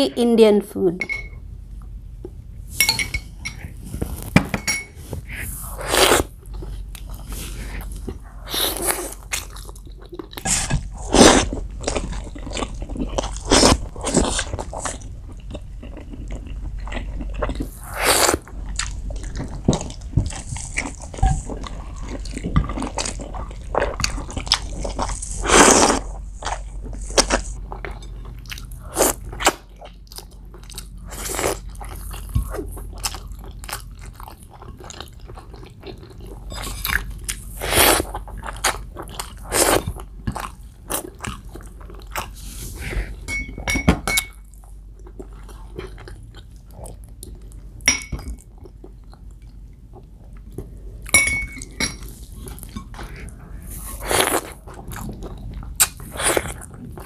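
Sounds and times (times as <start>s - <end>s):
person chewing food: 3.3s - 57.0s.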